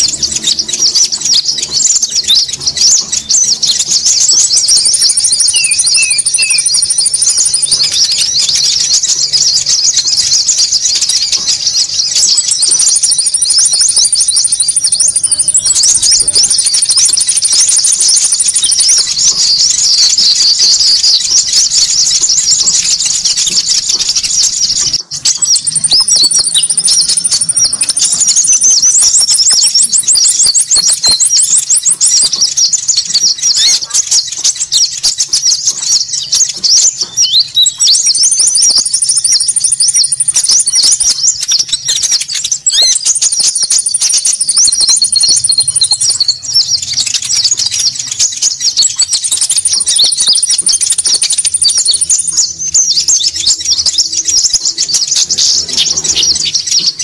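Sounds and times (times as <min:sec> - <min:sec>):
bird chirps: 0:00.0 - 0:57.0
high bird trills: 0:00.0 - 0:57.0.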